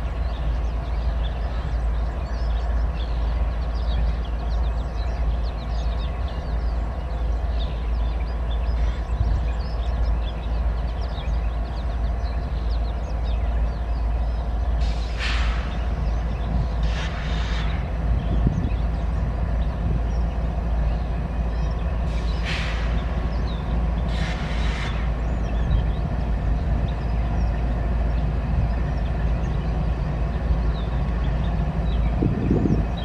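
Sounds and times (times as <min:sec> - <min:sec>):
freight train wheels on rails: 0:00.0 - 0:33.0.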